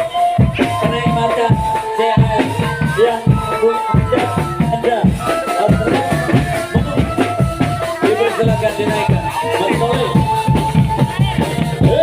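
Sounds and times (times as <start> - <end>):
drums beating a steady rhythm: 0.0 - 12.0
melody line: 0.0 - 12.0
rattling percussion: 0.0 - 12.0.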